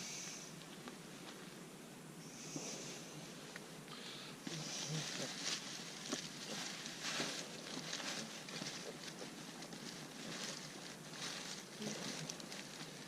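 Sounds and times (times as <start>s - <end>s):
rustling and crackling: 2.4s - 13.0s.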